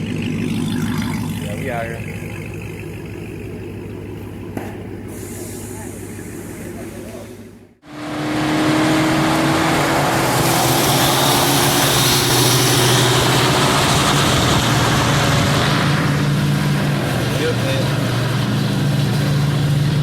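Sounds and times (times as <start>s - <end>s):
car engine drone: 0.0s - 20.0s
road and wind noise: 0.0s - 20.0s.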